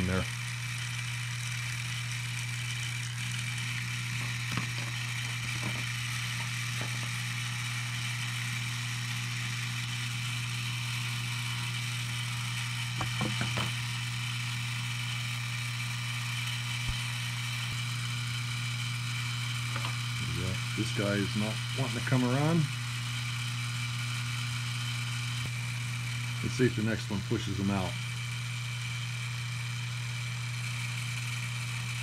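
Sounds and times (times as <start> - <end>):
vibrator mechanism buzzing: 0.0 - 32.0.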